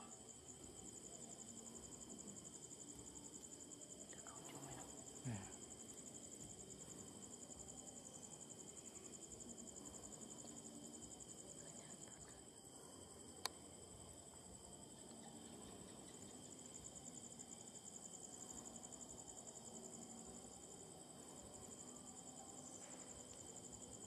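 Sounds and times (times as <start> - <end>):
insects chirping in pulsing trill: 0.0 - 24.0
steady insect tones: 0.0 - 24.0.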